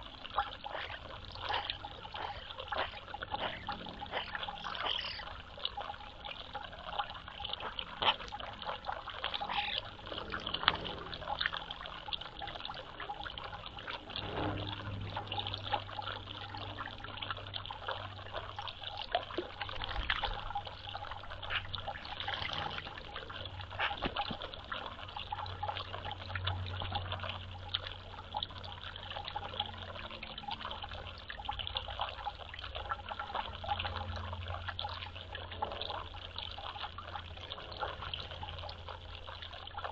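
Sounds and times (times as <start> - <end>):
low steady hum: 0.0 - 39.9
water drips: 0.0 - 39.9
water trickling and splashing: 0.0 - 39.9.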